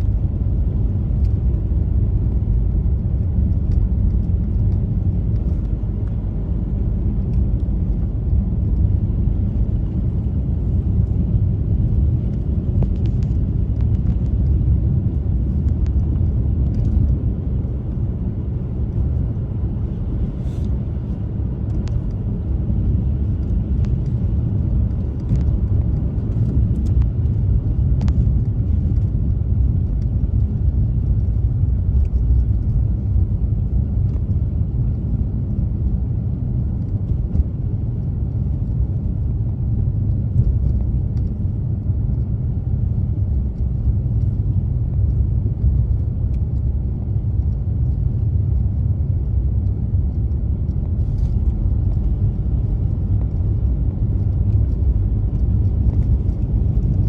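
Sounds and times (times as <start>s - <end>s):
car engine rumble: 0.0s - 57.0s
tyre noise on snowy road: 0.0s - 57.0s.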